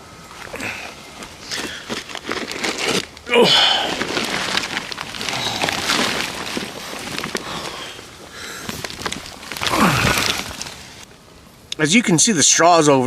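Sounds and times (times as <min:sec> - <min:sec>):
crackles and clicks: 0:00.2 - 0:11.1
plastic cover rustling and crinkling: 0:00.4 - 0:11.1.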